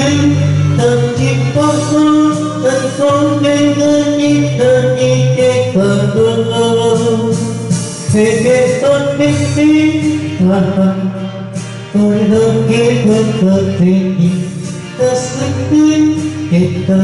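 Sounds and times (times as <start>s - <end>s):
karaoke backing track: 0.0s - 17.0s
man singing into microphone: 0.0s - 17.0s.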